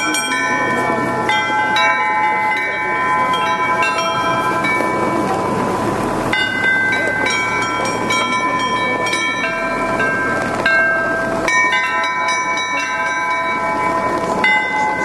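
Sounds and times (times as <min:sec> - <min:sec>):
small church bells ringing: 0:00.0 - 0:15.0.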